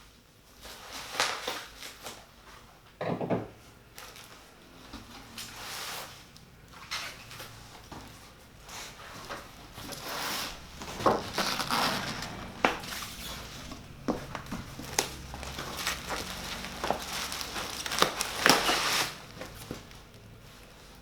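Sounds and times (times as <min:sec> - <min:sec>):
packaging rustling and crinkling: 0:03.9 - 0:21.0.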